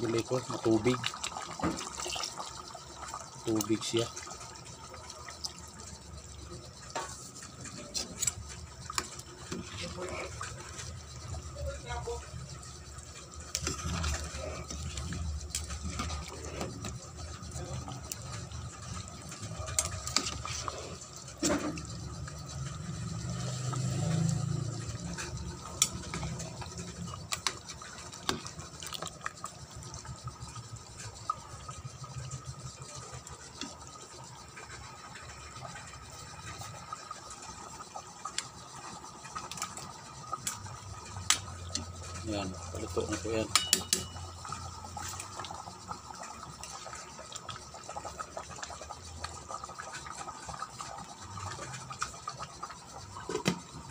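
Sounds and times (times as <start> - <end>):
curry bubbling and popping: 0.0 - 53.9
low steady hum: 0.0 - 53.9.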